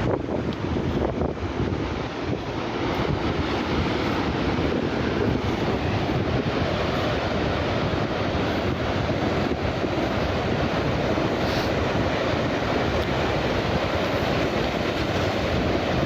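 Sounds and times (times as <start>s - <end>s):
surf breaking on shore: 0.0s - 16.0s
wind buffeting microphone: 0.0s - 16.0s.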